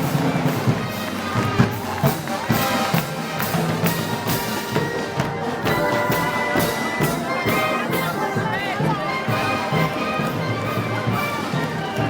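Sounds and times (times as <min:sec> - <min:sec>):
live band with brass and drums: 0:00.0 - 0:12.0.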